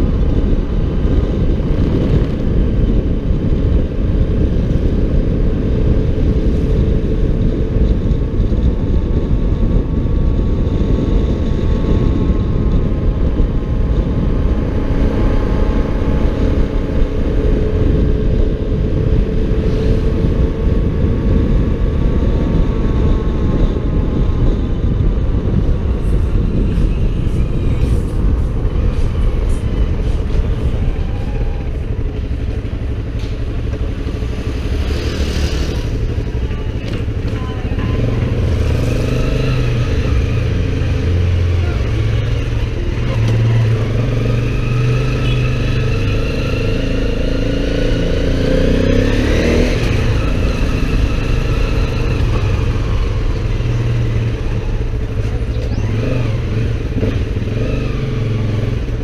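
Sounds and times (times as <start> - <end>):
loud low rumble: 0.0 - 59.0
motorcycle engine running: 0.0 - 59.0.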